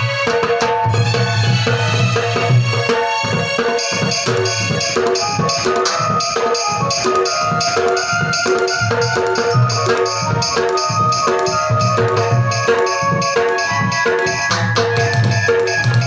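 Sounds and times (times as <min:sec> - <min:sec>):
instrumental stage music: 0:00.0 - 0:16.0
jingling percussion: 0:00.0 - 0:16.0
steady drum beat: 0:00.0 - 0:16.0.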